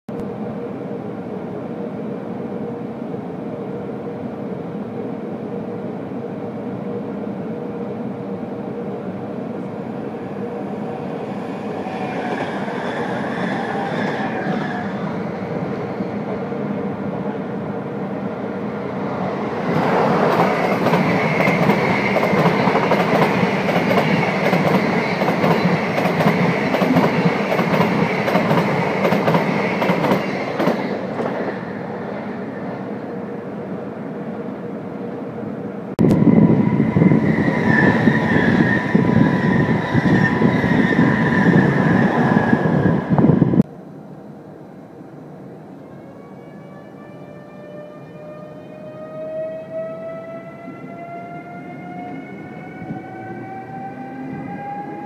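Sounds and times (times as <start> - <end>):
train rumbling on rails: 0.1 - 55.0.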